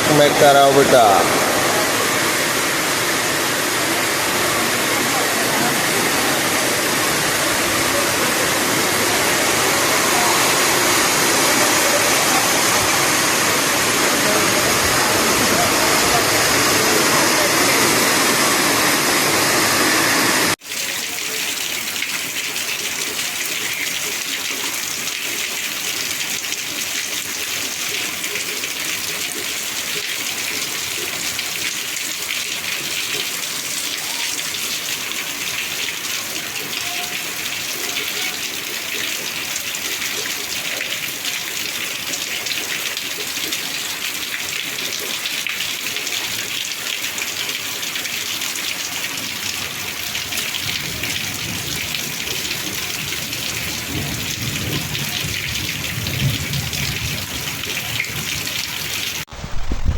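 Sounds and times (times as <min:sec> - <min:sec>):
heavy rain pouring: 0:00.0 - 0:59.9
rushing water: 0:00.0 - 0:59.9.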